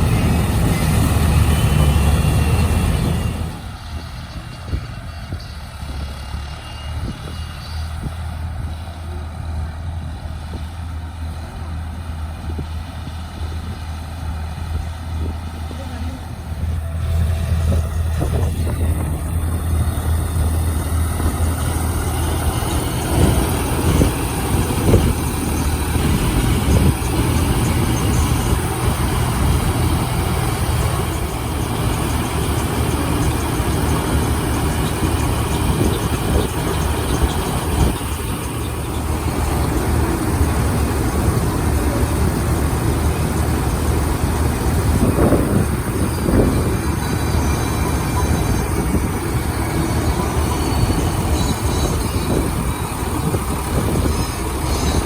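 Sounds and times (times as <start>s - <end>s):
harvester engine humming: 0.0s - 55.0s
working machinery noise: 0.0s - 55.0s.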